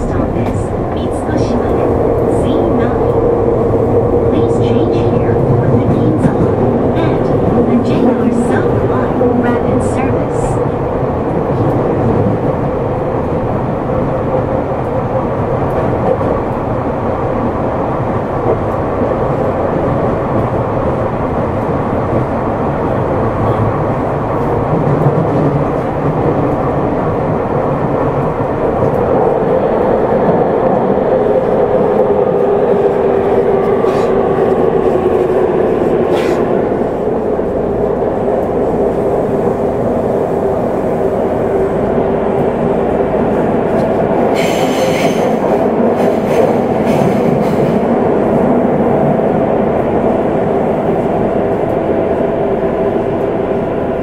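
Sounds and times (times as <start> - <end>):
subway train rumbling in tunnel: 0.0 - 54.0.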